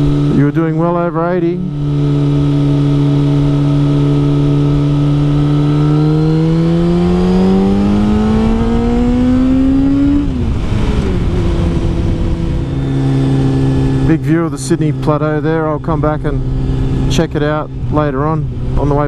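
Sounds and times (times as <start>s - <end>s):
motorcycle engine revving: 0.0s - 19.0s
wind rumble: 0.0s - 19.0s.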